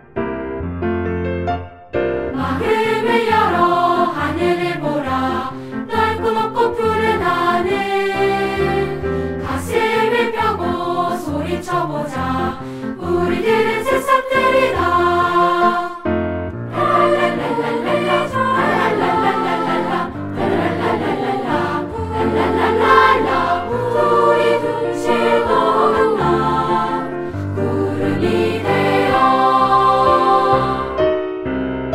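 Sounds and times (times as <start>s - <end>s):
piano accompaniment: 0.0s - 31.9s
children's choir singing: 2.4s - 16.0s, 16.7s - 31.2s.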